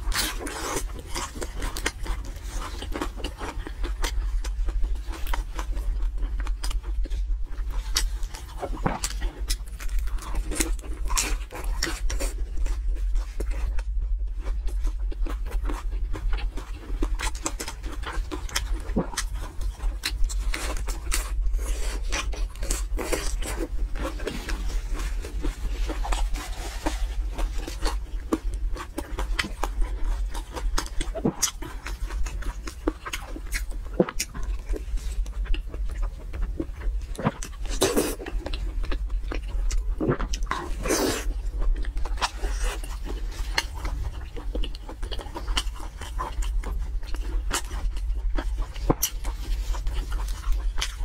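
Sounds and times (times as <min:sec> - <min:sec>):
chewing with wet mouth smacks: 0:00.0 - 0:51.0
steady low hum: 0:00.0 - 0:51.0.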